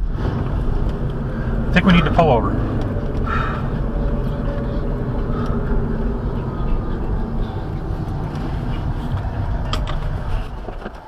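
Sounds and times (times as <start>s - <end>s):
car engine hum: 0.0s - 11.0s
road and tyre rumble: 0.0s - 11.0s.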